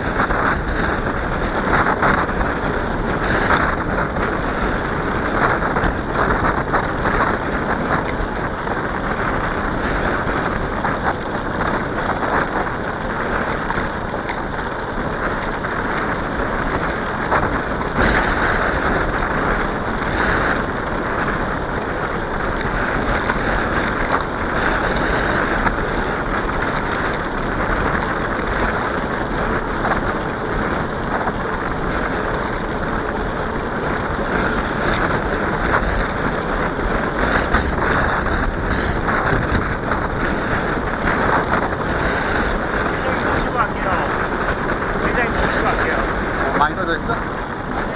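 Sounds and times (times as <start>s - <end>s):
bicycle mechanism ticking and rattling: 0.0s - 47.9s
bicycle rolling: 0.0s - 47.9s
wind rushing: 0.0s - 47.9s.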